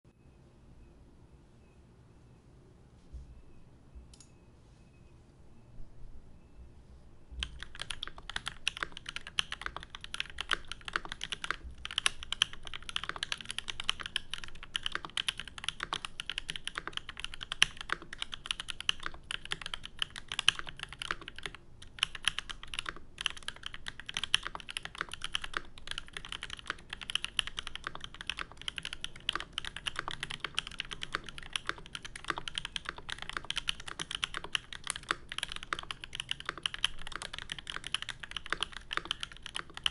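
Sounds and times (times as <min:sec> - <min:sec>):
fast typing on mechanical keyboard: 0:07.4 - 0:39.9.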